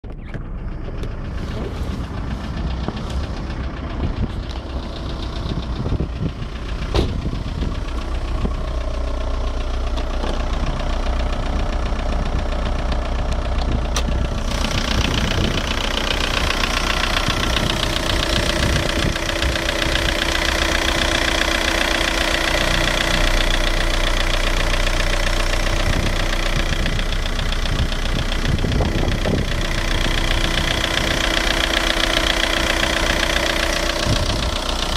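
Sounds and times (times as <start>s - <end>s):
diesel engine idling with knock: 0.0s - 34.9s.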